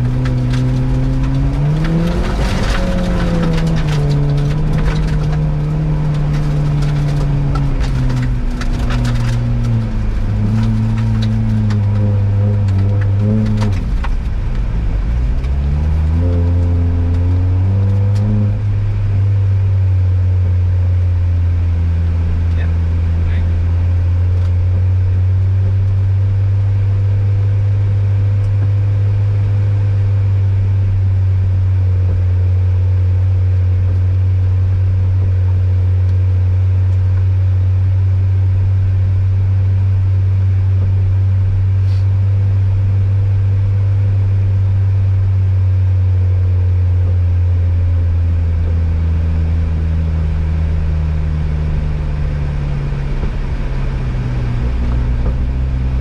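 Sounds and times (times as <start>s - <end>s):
car engine drone from inside cabin: 0.0s - 56.0s.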